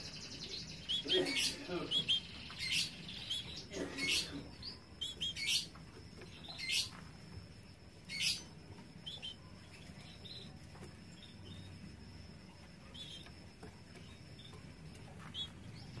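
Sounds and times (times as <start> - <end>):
canaries chirping: 0.0 - 16.0
harsh canary calls: 0.0 - 16.0.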